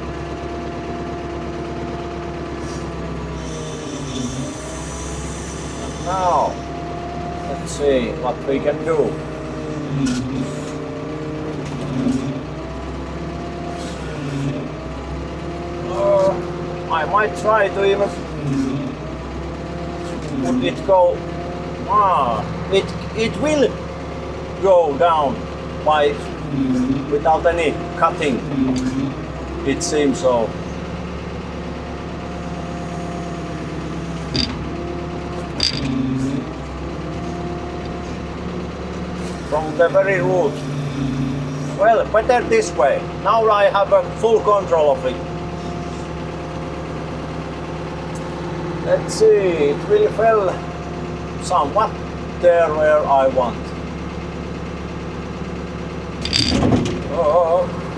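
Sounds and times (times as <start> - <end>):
excavator engine running: 0.0 - 57.9.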